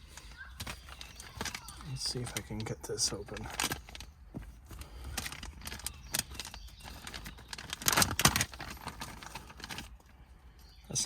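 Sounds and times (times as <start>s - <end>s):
small metal parts rattling: 0.0s - 10.1s
plastic packaging crinkling: 0.0s - 10.2s.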